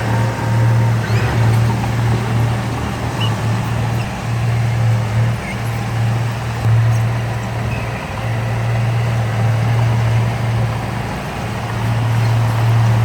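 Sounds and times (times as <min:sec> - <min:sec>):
heavy diesel engine hum: 0:00.0 - 0:13.0.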